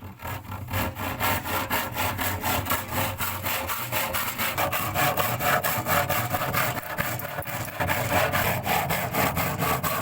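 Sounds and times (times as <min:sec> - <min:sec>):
wood being sawn: 0:00.0 - 0:10.0.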